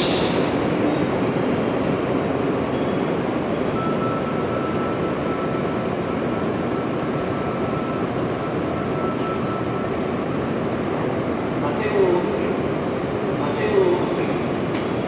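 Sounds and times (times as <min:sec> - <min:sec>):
train rumbling slowly: 0:00.0 - 0:15.0.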